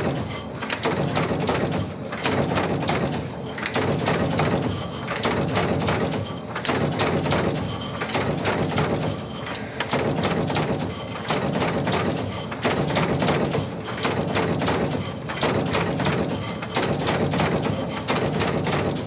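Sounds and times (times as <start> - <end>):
machine clattering: 0.0 - 19.0.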